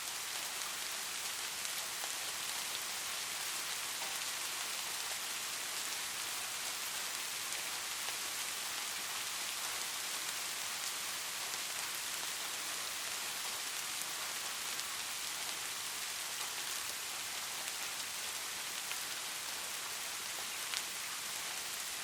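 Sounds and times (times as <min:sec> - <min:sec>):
light rain pattering: 0:00.0 - 0:22.0.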